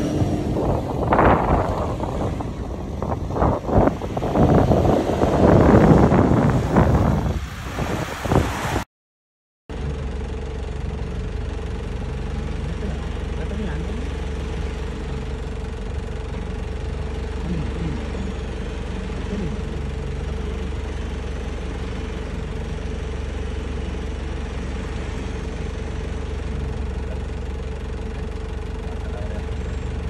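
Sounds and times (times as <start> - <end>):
vehicle engine idling: 0.0 - 8.1, 9.7 - 30.0.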